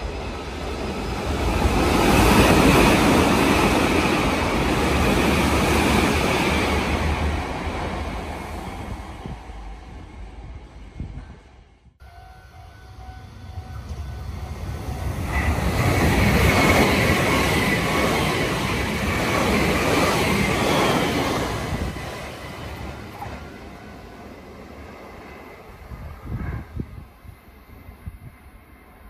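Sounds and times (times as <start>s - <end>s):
train wheels on rail: 0.0s - 11.8s, 13.0s - 28.6s.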